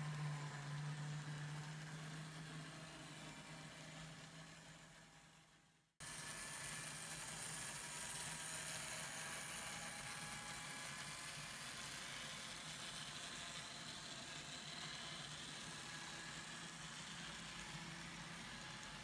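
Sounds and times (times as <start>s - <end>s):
model train motor and wheels whirring: 0.0s - 19.0s.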